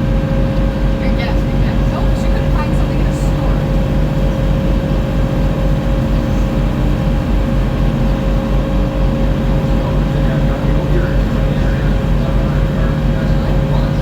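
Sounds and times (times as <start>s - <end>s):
boat engine throbbing: 0.0s - 14.0s
steady engine whine: 0.0s - 14.0s.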